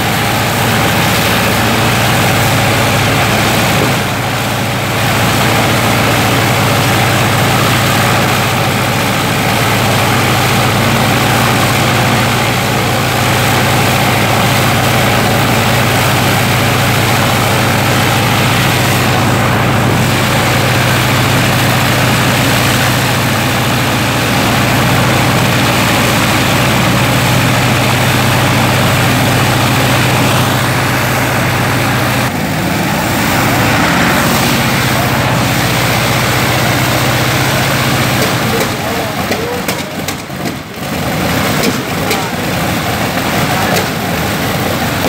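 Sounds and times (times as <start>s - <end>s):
radial aircraft engine droning: 0.0s - 45.0s.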